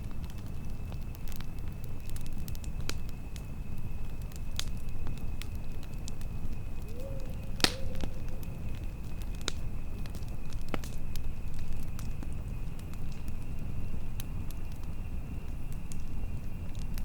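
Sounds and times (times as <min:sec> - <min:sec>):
campfire crackling and popping: 0:00.0 - 0:17.0
wind rumble: 0:00.0 - 0:17.0.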